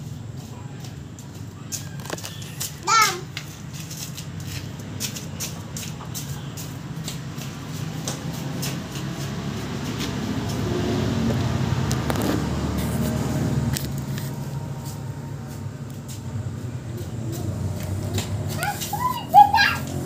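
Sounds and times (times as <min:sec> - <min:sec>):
low engine hum: 0:03.6 - 0:20.0.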